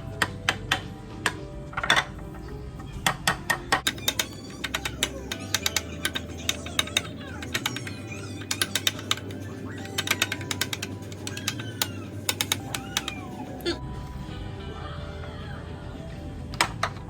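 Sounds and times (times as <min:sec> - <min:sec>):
television music: 0:00.0 - 0:17.0
television voices: 0:00.0 - 0:17.0.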